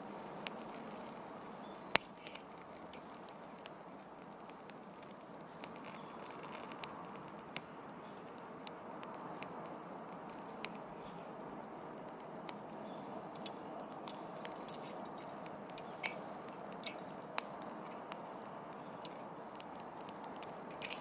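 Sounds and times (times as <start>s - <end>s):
bonfire crackling: 0.0s - 21.0s
sharp pops and snaps of fire: 0.0s - 21.0s.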